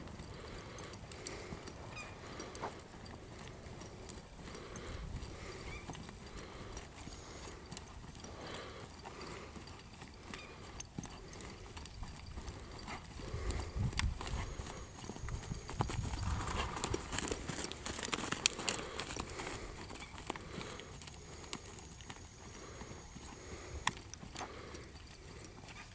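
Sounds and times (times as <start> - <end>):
hooves thudding on dirt: 0.0 - 25.9.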